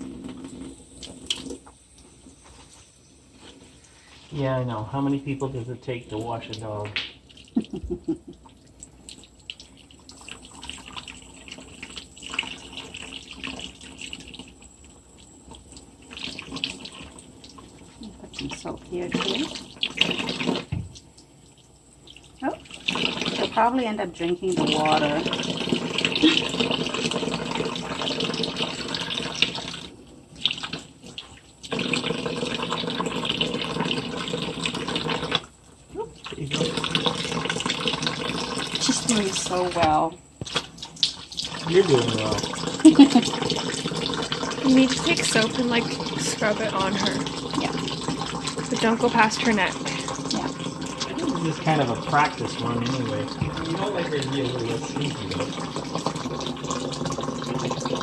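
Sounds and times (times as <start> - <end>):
water running from a tap: 0.0 - 58.0.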